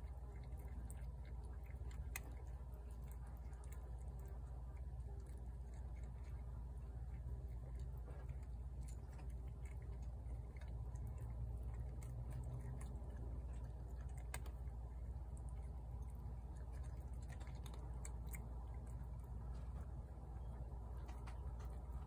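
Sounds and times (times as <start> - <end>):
cat crunching dry kibble: 0.0 - 22.0.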